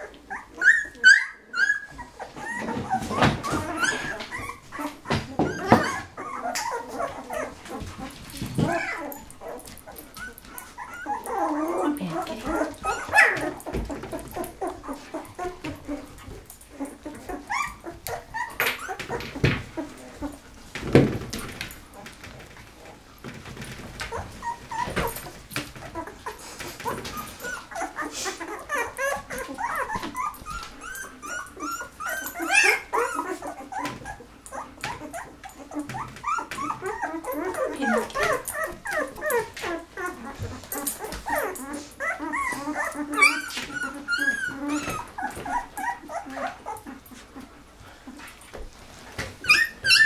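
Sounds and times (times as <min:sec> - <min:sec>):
puppies whimpering and squealing: 0:00.0 - 0:50.0.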